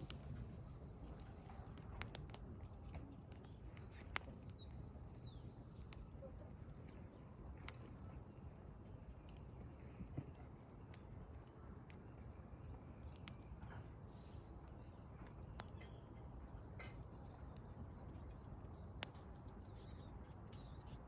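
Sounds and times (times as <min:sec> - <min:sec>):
birds calling faintly: 0:00.0 - 0:21.0
campfire crackling and popping: 0:00.0 - 0:21.0.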